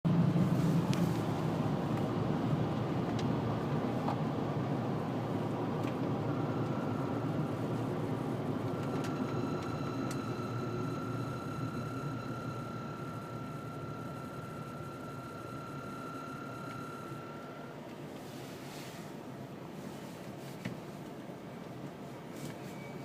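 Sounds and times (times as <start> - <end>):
car cabin road noise: 0.1 - 23.0.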